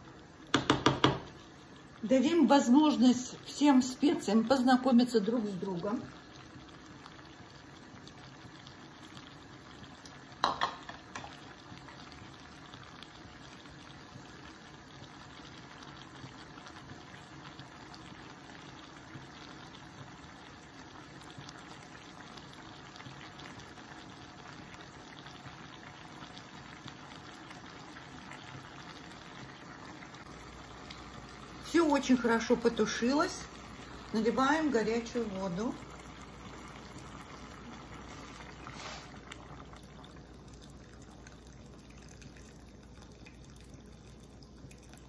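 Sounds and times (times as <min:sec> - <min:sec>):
stew bubbling in a pot: 0:00.0 - 0:45.0.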